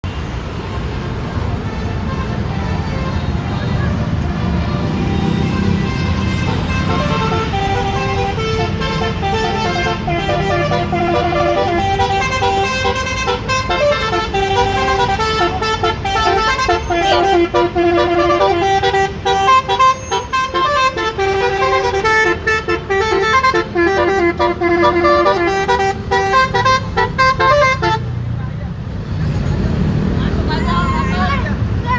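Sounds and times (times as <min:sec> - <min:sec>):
musical bus horn playing: 0:01.6 - 0:28.2.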